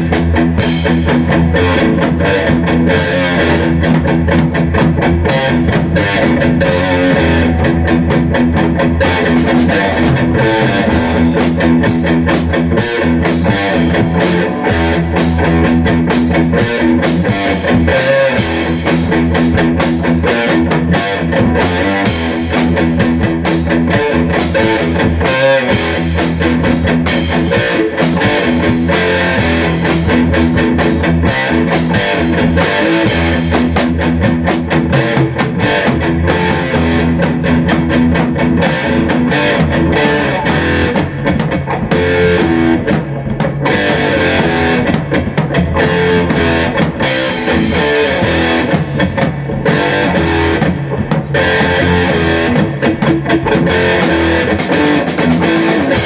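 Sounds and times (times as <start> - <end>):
drum kit and cymbals: 0.0 - 56.0
electric guitar chords: 0.0 - 56.0.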